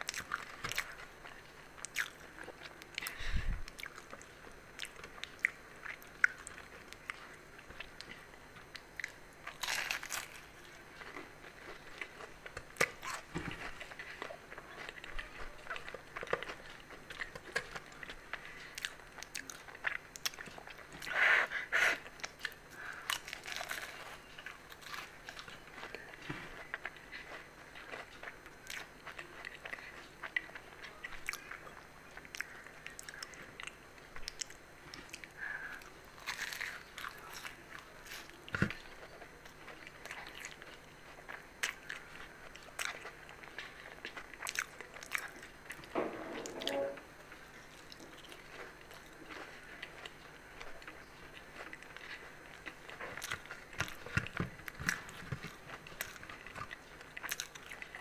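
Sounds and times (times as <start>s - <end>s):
crisp pastry crunching while chewing: 0.0s - 45.9s, 47.2s - 58.0s.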